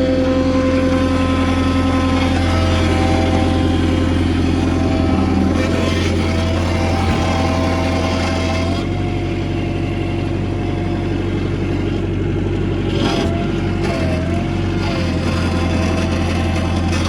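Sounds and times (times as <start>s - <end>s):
skid steer engine running: 0.0s - 17.0s
thin whine shifting in pitch: 0.0s - 17.0s.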